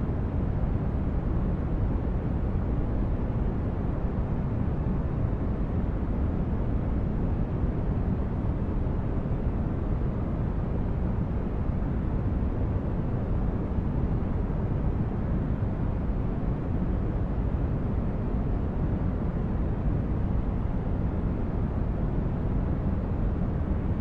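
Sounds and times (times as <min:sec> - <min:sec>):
low rumbling brown noise: 0:00.0 - 0:24.0.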